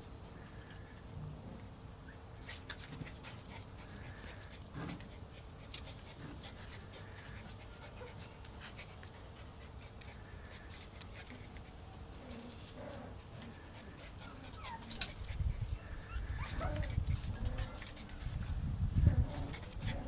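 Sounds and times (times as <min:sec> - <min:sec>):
puppies panting: 0:02.4 - 0:20.0.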